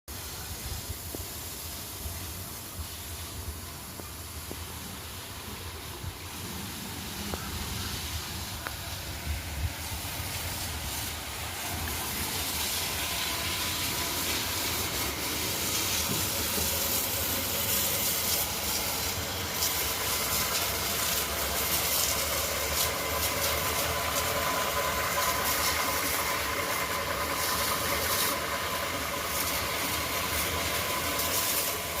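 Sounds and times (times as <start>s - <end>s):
hiss of air and water jet: 0.1s - 32.0s.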